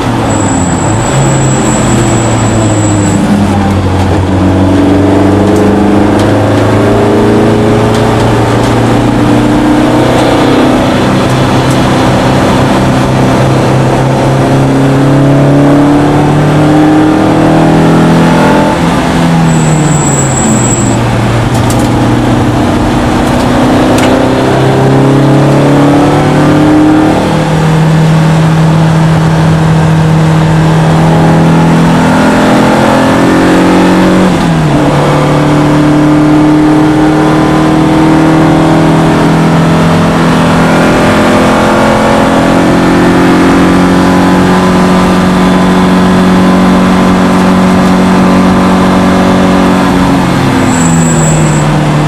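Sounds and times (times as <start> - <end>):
car engine at high revs: 0.0 - 52.0.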